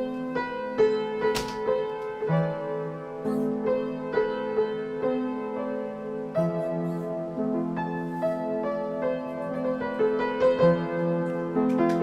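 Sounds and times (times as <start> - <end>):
piano playing chords: 0.0 - 12.0.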